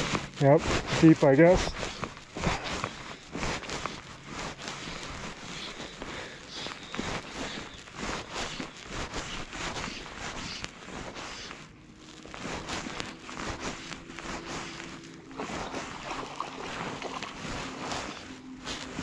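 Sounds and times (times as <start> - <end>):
water splashing and lapping: 1.8 - 19.0.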